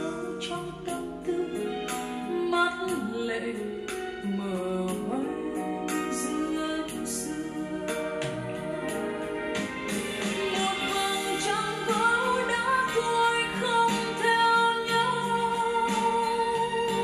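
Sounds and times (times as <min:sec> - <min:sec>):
woman singing pop ballad: 0:00.0 - 0:17.0.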